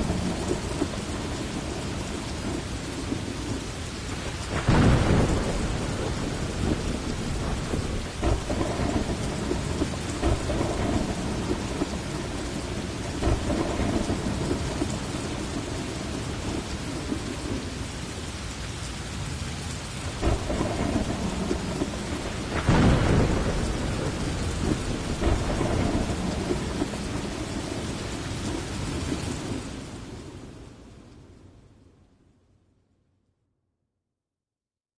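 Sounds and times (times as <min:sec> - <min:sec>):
thunder rumbling: 0:00.0 - 0:18.5, 0:19.2 - 0:31.4
heavy rain: 0:00.0 - 0:32.2.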